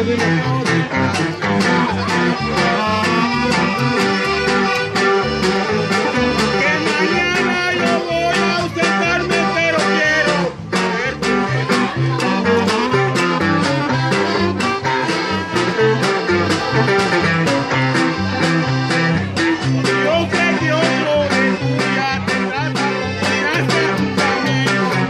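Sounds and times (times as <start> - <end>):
live band playing upbeat tune: 0.0 - 25.0.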